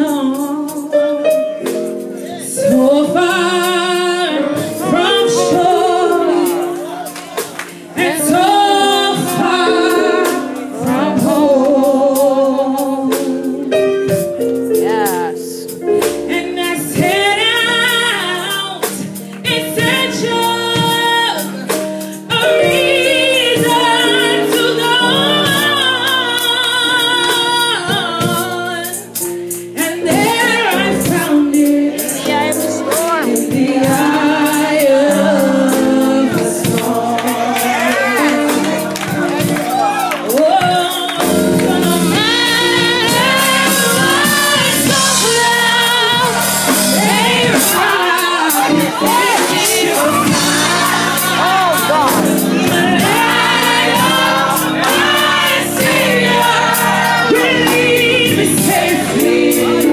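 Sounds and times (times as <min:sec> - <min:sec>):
woman singing through loudspeakers: 0:00.0 - 0:01.1, 0:02.6 - 0:07.1, 0:07.9 - 0:13.8, 0:14.8 - 0:21.7, 0:22.3 - 0:29.1, 0:29.8 - 0:39.0, 0:40.2 - 0:59.9.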